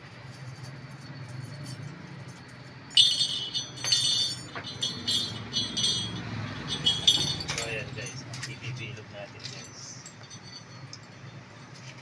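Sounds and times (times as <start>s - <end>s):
metal strip clinking and rattling: 0.1s - 8.7s, 9.3s - 12.0s.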